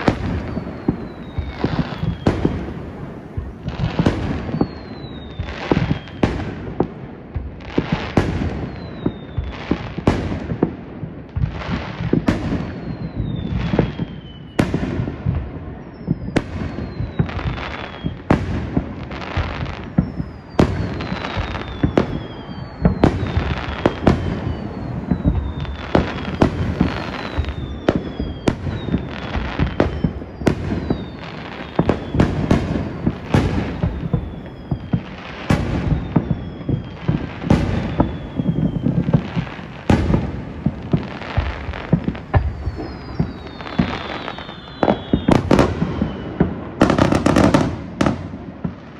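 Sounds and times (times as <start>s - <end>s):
falling firework whistles: 0.0s - 48.9s.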